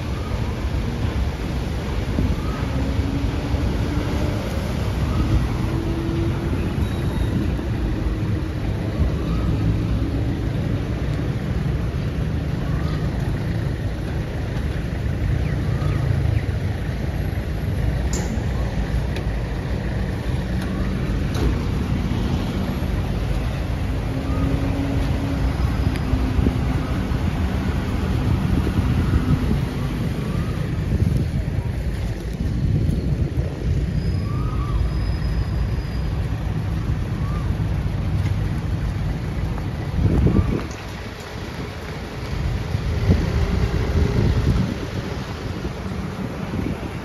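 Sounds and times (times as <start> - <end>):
passing road traffic: 0.0 - 47.0.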